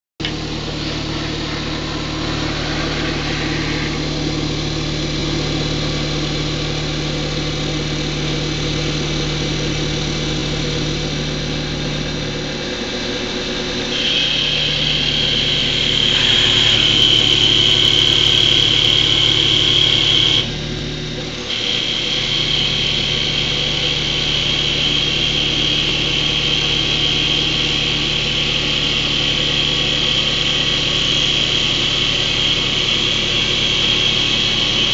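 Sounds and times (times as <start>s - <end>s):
cutter whine on wood: 0.2s - 34.9s
lathe motor hum: 0.2s - 34.9s.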